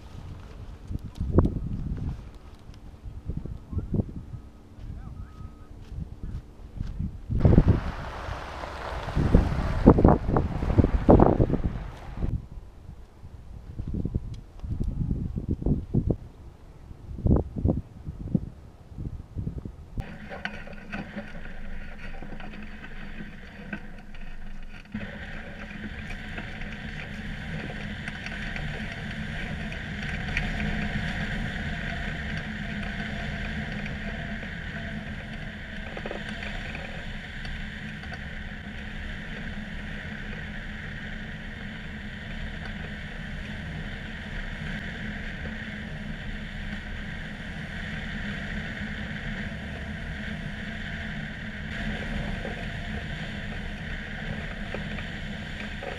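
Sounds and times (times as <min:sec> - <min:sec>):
wind rushing with buffeting rumble: 0:00.0 - 0:55.9.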